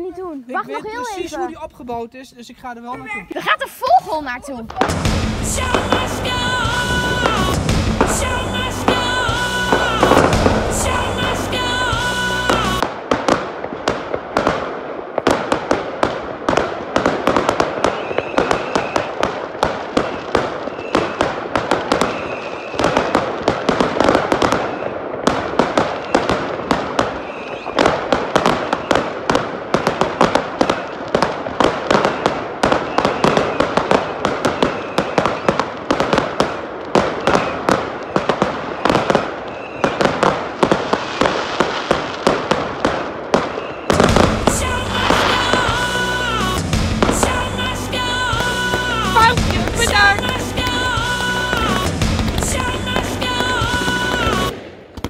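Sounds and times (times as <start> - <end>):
fireworks crackling: 0.0 - 55.0
fireworks bangs: 3.5 - 55.0.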